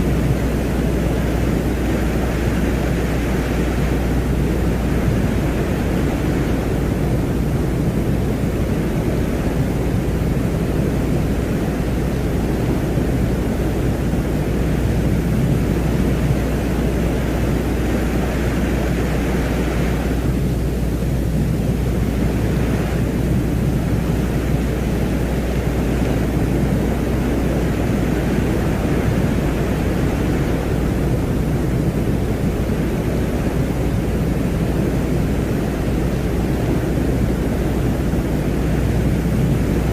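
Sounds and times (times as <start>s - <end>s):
constant low hum: 0.0s - 39.9s.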